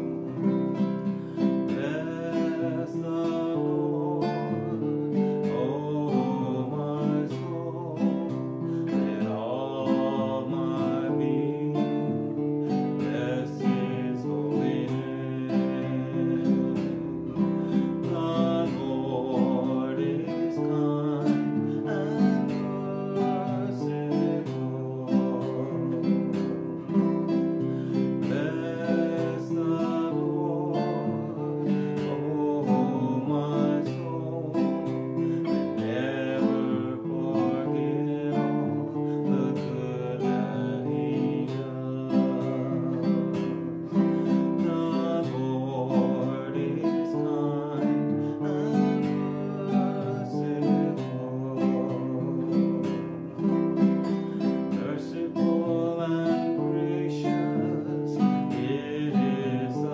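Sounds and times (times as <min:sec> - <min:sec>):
classical guitar strummed and picked: 0:00.0 - 0:59.9
man singing: 0:00.0 - 0:59.9.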